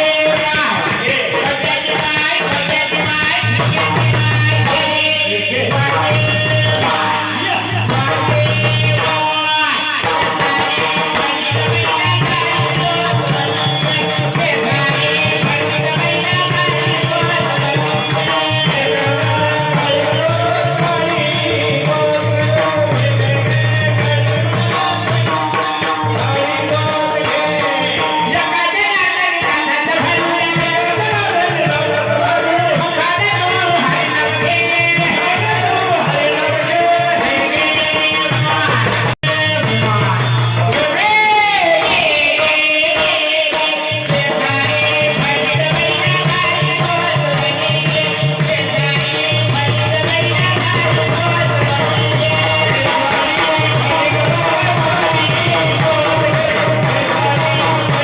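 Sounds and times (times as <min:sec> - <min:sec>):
jingling hand percussion: 0:00.0 - 0:58.0.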